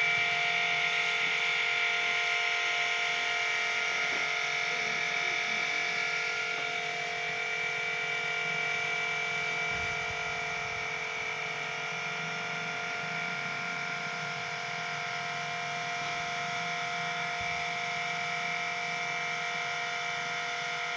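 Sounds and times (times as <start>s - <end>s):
machine running with whine: 0.0s - 20.9s.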